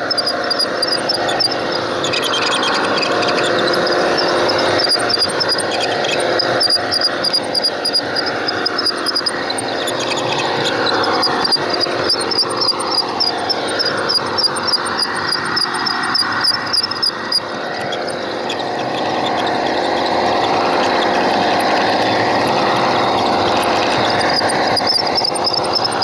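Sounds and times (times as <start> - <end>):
model train running on rails: 0.0 - 26.0
small high clicks: 0.0 - 26.0.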